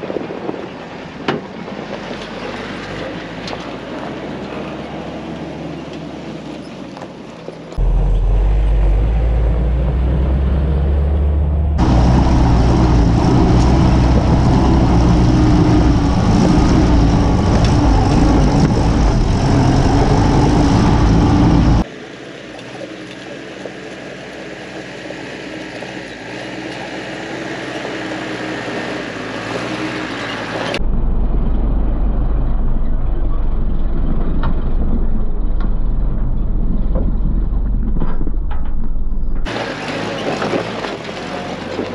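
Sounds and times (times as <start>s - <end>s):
jeep engine running: 7.8s - 41.9s.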